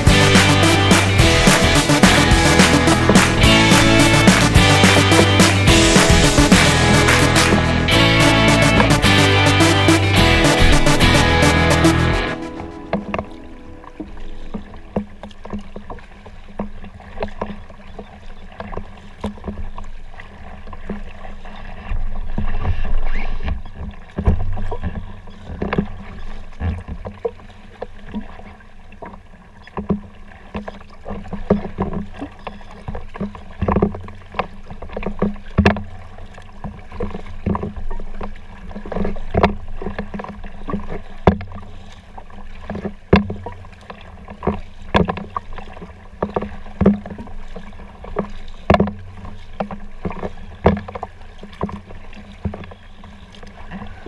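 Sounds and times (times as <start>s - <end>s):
paddle knocking against boat: 0.0s - 54.0s
paddle splashing in water: 0.0s - 54.0s.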